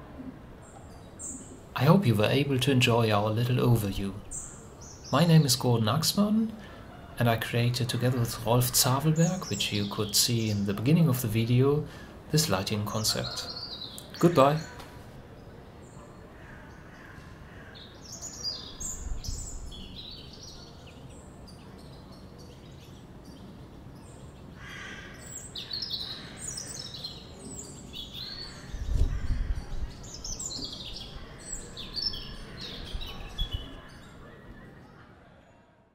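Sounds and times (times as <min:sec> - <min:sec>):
birds chirping: 0:00.0 - 0:35.2.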